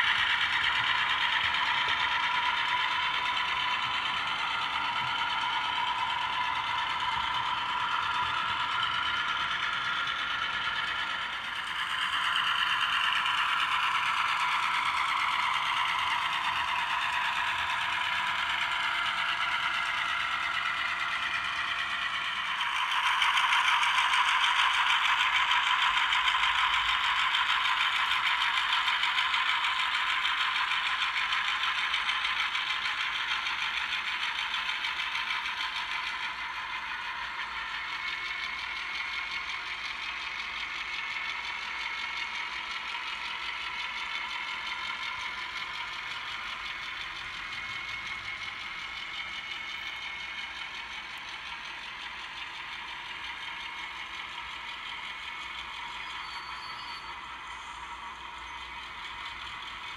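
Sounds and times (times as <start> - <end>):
model train whirring: 0.0 - 59.9.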